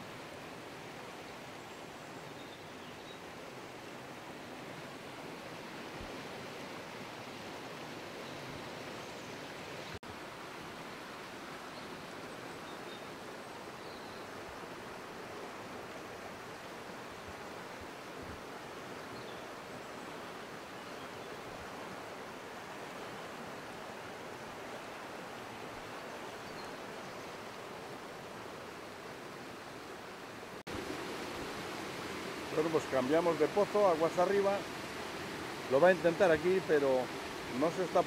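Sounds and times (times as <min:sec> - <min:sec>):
flowing river water: 0:00.0 - 0:38.0.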